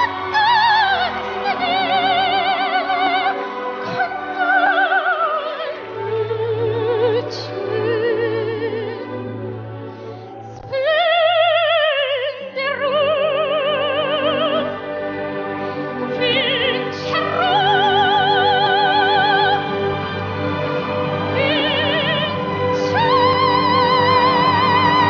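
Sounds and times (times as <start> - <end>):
girl singing opera: 0.0 - 9.2, 10.4 - 14.8, 16.1 - 19.7, 21.2 - 25.0.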